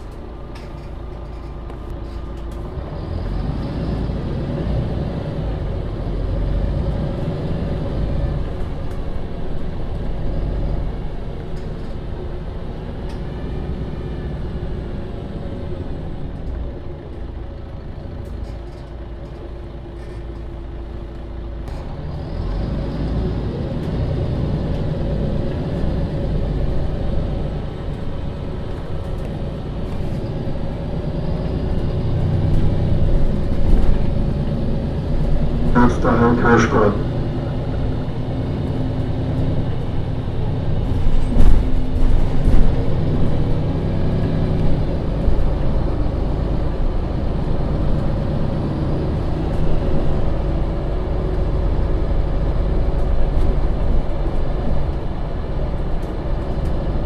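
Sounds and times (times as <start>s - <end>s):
bus engine from inside: 0.0s - 57.0s.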